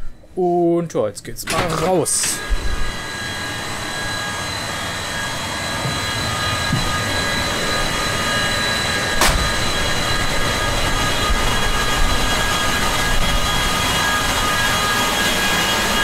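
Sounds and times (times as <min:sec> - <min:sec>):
locomotive machinery whine: 0:01.5 - 0:16.0.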